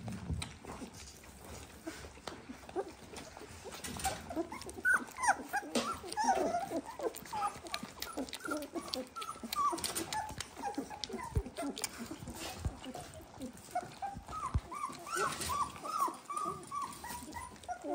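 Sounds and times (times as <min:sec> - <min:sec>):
puppies squeaking and whimpering: 0:00.6 - 0:17.9.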